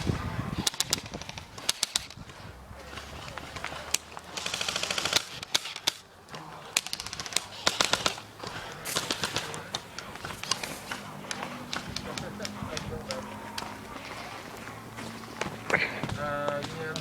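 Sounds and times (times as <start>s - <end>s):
airsoft guns firing: 0.0s - 17.0s.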